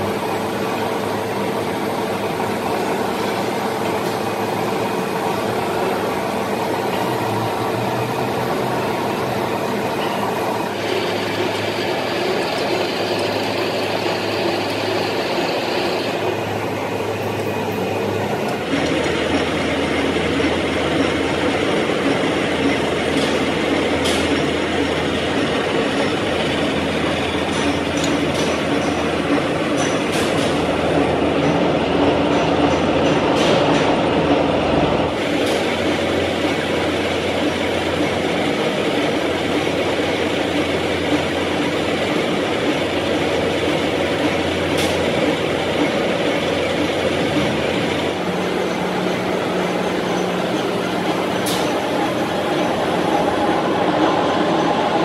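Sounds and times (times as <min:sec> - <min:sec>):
machine mechanical drone: 0:00.0 - 0:55.0.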